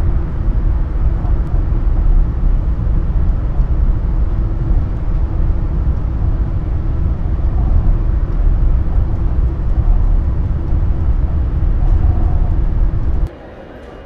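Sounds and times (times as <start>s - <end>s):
shuttle train rumbling: 0.0s - 14.0s.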